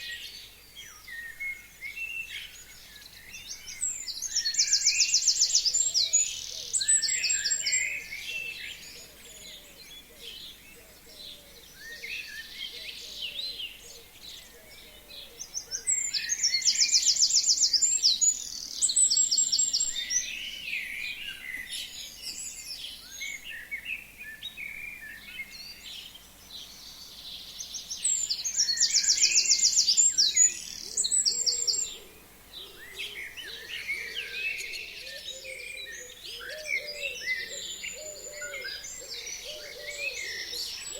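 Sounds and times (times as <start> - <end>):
songbirds chirping and calling: 0.0 - 40.9.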